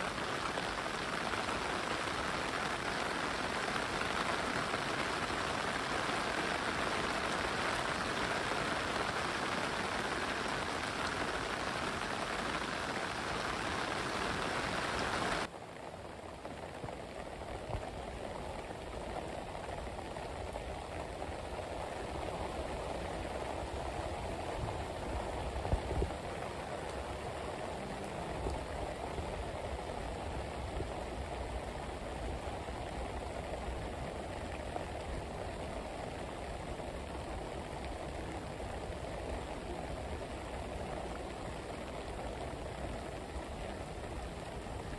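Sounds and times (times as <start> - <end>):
heavy rain hiss: 0.0 - 44.9.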